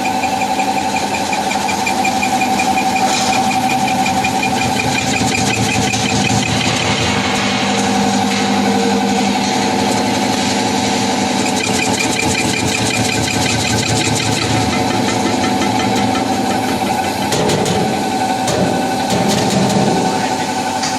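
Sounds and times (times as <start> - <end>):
slicing machine motor hum: 0.1 - 20.9.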